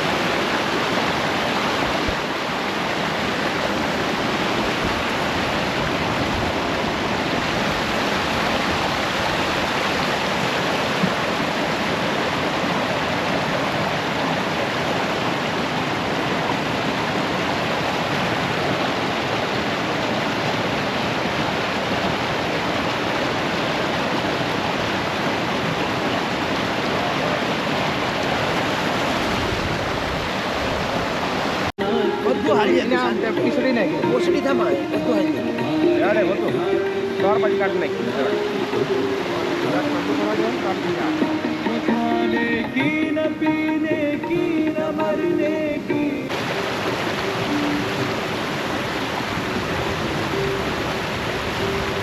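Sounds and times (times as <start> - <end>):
running water rushing: 0.0 - 52.0.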